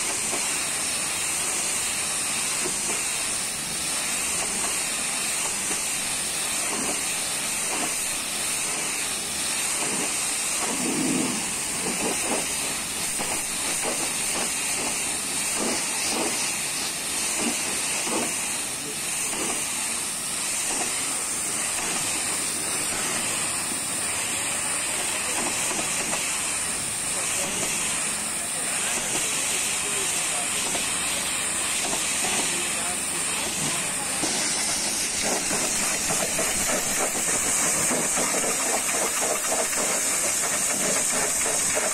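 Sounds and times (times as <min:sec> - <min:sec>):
pressure washer spraying: 0:00.0 - 0:41.9.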